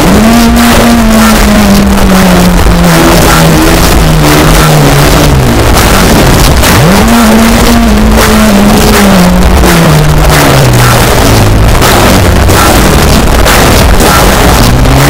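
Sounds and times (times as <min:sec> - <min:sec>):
extreme metal music: 0:00.0 - 0:15.0
low pitched sweeping line: 0:00.0 - 0:15.0.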